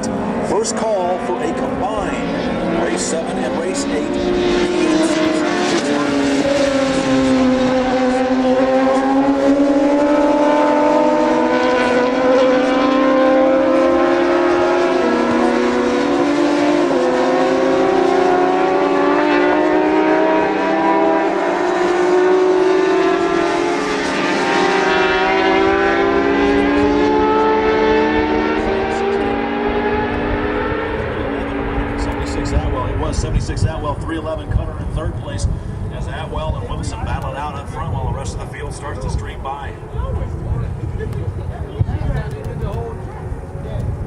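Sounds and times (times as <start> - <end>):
racing motorcycle engines revving: 0.0 - 44.0.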